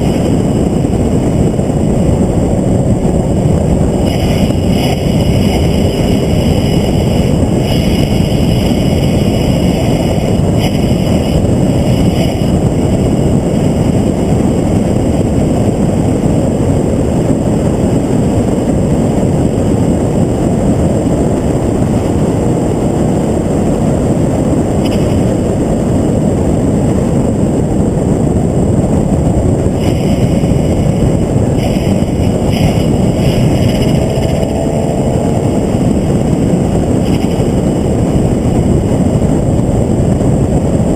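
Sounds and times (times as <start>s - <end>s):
race car engine: 0.0s - 25.8s, 29.3s - 40.7s
wind rush: 0.0s - 40.9s.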